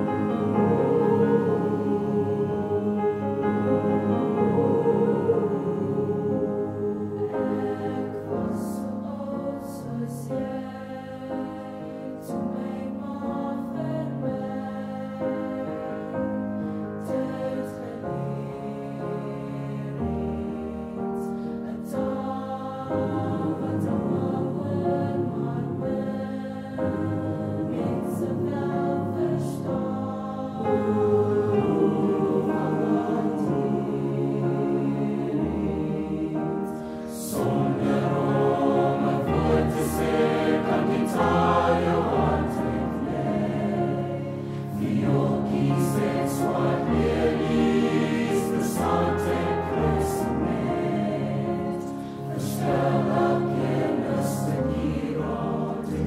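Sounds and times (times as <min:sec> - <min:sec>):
choir singing: 0:00.0 - 0:56.0
piano accompaniment: 0:00.0 - 0:56.0.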